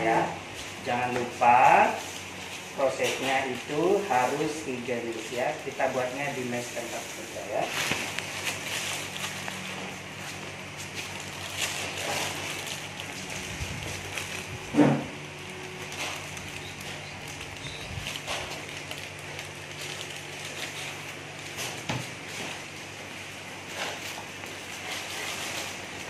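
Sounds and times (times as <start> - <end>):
plastic bags crinkling: 0.0 - 26.0
steady low hum: 0.0 - 26.0.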